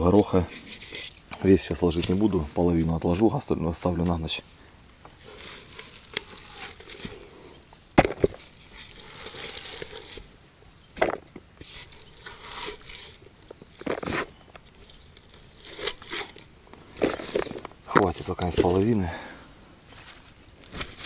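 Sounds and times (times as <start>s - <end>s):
rustling and scraping: 0.0s - 19.3s, 19.9s - 21.0s.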